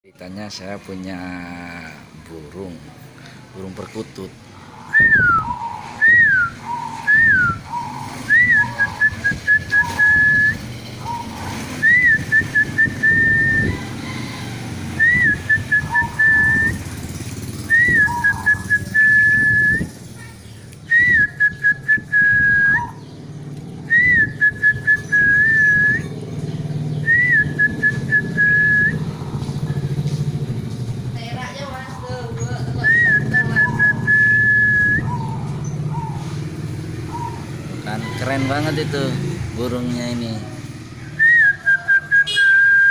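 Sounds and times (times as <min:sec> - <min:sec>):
dove singing: 0:00.3 - 0:42.9.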